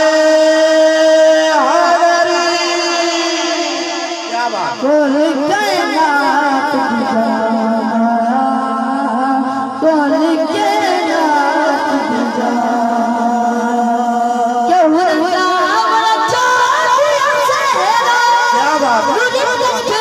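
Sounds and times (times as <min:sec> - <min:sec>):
boy singing into a microphone: 0:00.0 - 0:20.0.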